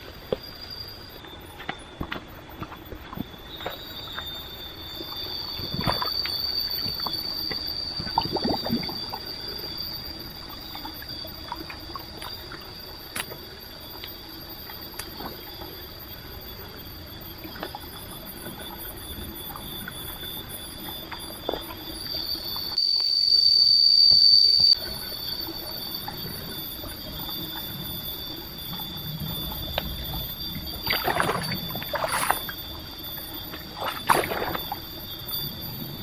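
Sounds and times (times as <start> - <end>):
forest insects droning: 0.0 - 36.0.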